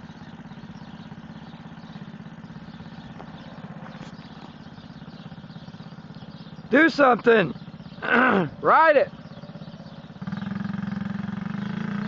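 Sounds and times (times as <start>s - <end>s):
quad bike engine putter: 0.0s - 12.0s.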